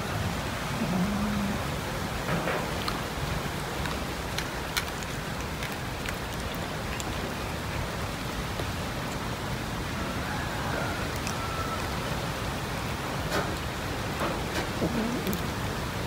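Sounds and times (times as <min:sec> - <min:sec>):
cats chewing wetly: 0:00.6 - 0:16.0.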